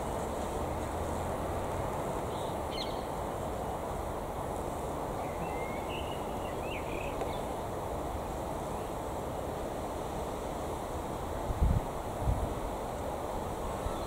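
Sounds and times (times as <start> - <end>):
gusty wind: 0.0 - 14.0.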